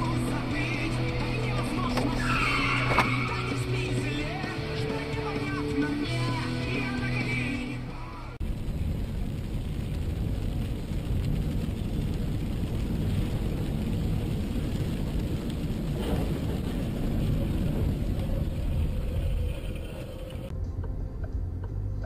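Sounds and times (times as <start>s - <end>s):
rain and tyre hiss: 0.0s - 7.7s, 8.4s - 20.5s
car engine and road noise: 0.0s - 22.0s.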